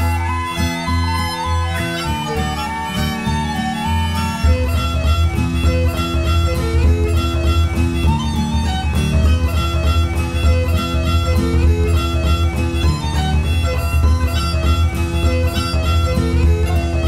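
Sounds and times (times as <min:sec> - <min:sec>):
lively instrumental music: 0:00.0 - 0:17.0.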